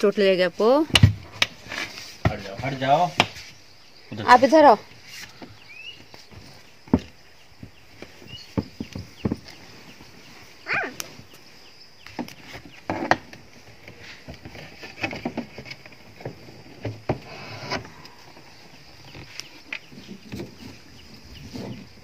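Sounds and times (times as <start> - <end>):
rustling of bedding: 4.3 - 22.0.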